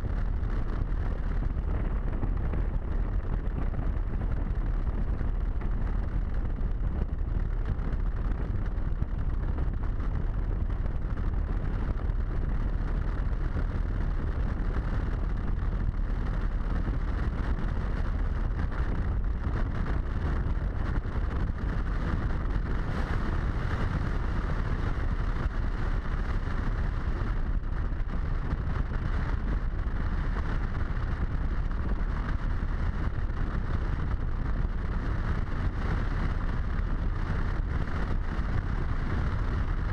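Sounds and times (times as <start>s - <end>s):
motorcycle engine rumble: 0.0s - 39.9s
wind rushing on microphone: 0.0s - 39.9s.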